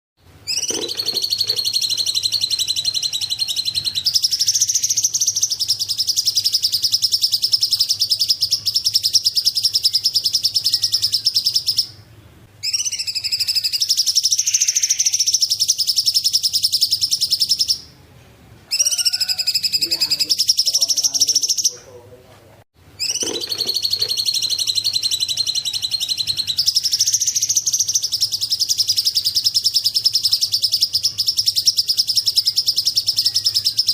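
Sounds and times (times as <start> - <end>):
bird singing high trills: 0.4 - 12.0, 12.6 - 17.9, 23.0 - 33.9.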